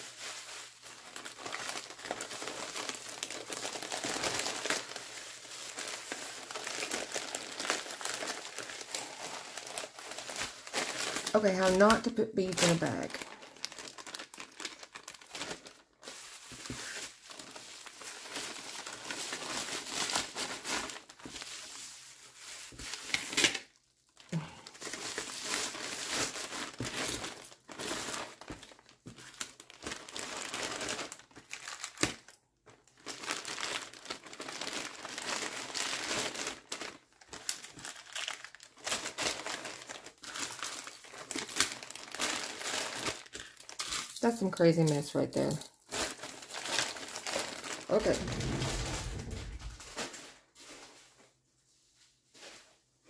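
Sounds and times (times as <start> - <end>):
bubble wrap crinkling: 0.0 - 52.7.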